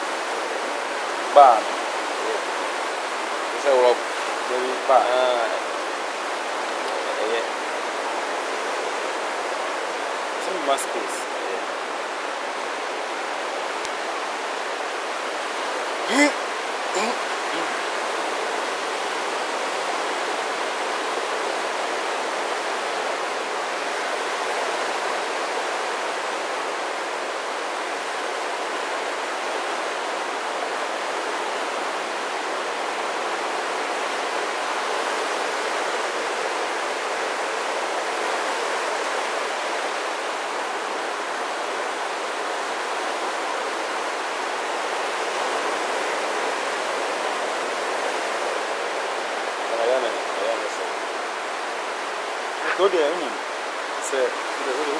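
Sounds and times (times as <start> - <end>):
ocean surf breaking: 0.0 - 54.9.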